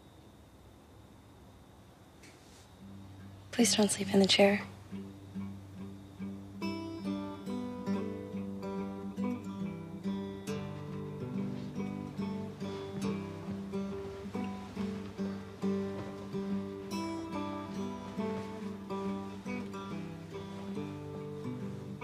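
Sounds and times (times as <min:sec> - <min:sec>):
acoustic guitar picking: 0:02.8 - 0:22.0.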